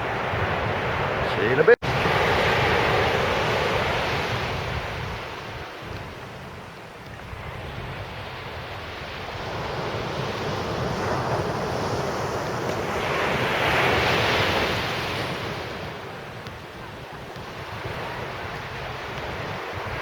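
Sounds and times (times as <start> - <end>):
surf breaking on beach: 0.0 - 20.0
wind on microphone: 0.0 - 20.0.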